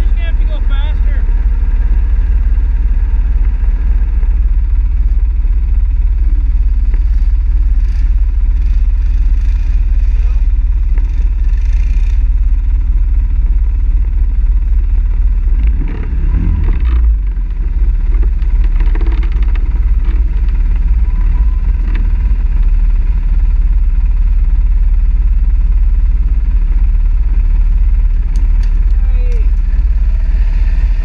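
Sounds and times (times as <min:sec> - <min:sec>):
atv engines rumbling: 0:00.0 - 0:31.0
quad driving over branches: 0:00.0 - 0:31.0.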